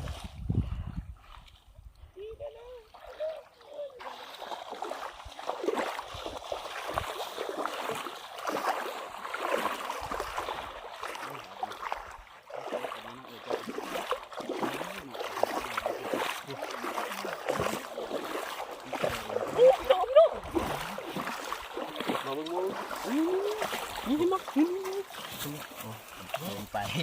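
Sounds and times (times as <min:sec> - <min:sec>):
water splashing in pond: 0:00.0 - 0:27.0.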